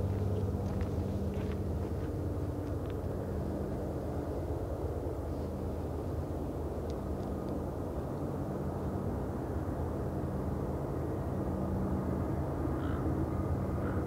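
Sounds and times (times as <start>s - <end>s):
distant locomotive engine drone: 0.0s - 14.0s.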